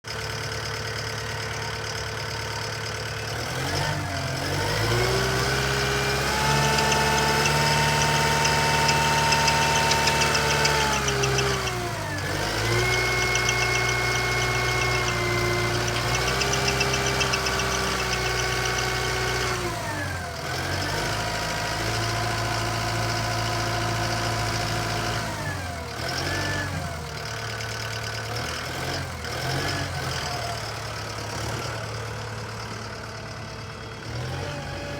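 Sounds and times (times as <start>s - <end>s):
tractor diesel engine revving: 0.0s - 34.9s.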